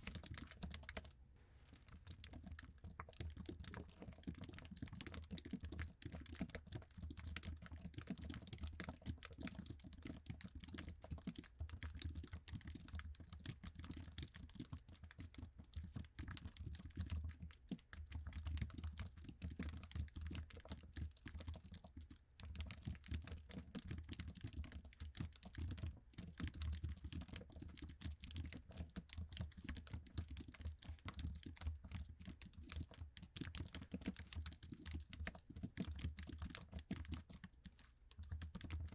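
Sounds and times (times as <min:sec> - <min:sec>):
fast typing on keyboard: 0:00.0 - 0:01.1, 0:01.8 - 0:38.9.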